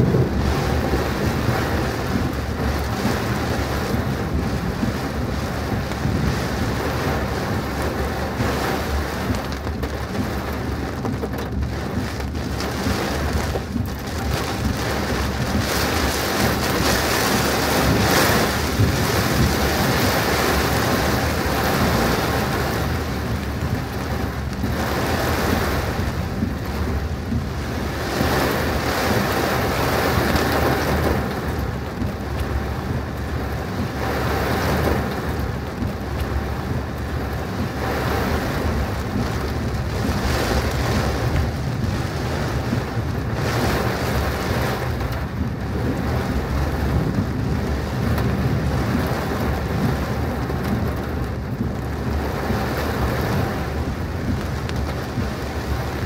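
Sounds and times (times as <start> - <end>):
car engine hum: 0.0 - 56.0
heavy rain on a car: 0.0 - 56.0.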